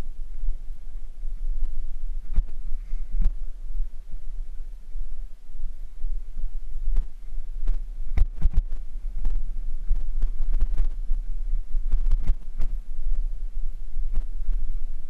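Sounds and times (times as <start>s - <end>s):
low rumble of wind and vibration: 0.0s - 15.0s.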